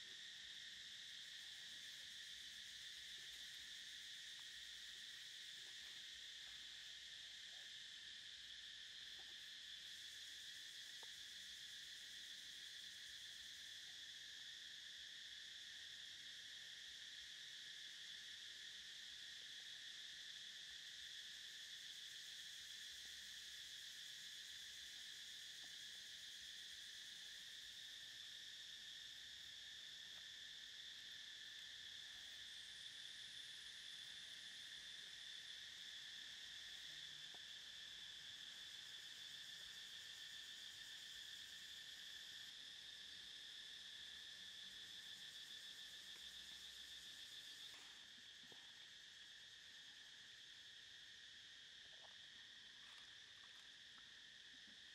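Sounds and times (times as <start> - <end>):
insects buzzing: 0.0 - 54.9.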